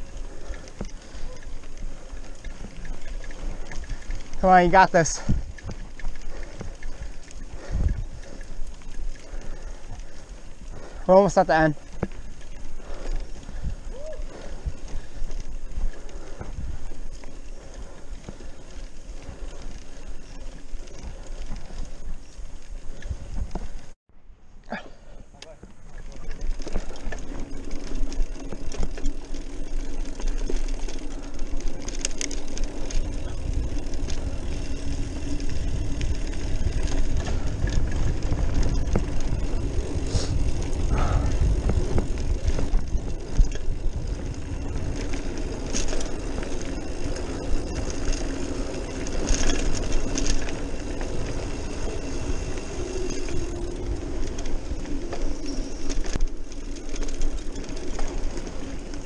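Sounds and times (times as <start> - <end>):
wind buffeting microphone: 0.0 - 11.0, 11.8 - 24.0, 30.5 - 59.0
tyres rolling over dirt: 0.0 - 23.9, 25.5 - 59.0
bike clicks and rattles: 0.0 - 24.0, 24.7 - 59.0.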